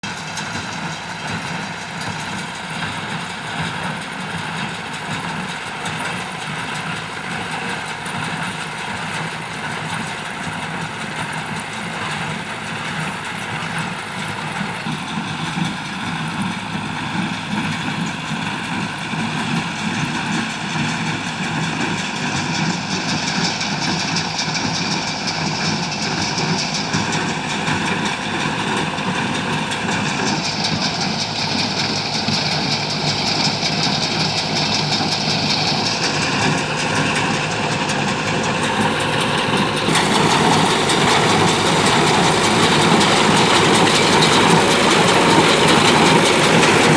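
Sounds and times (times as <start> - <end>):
tractor and baler running: 0.0 - 46.9.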